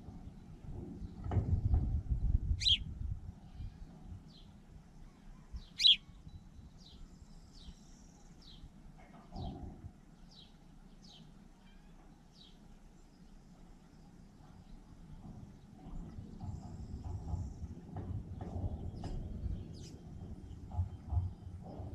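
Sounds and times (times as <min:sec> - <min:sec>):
small birds chirping: 0:02.2 - 0:17.7, 0:18.3 - 0:21.5.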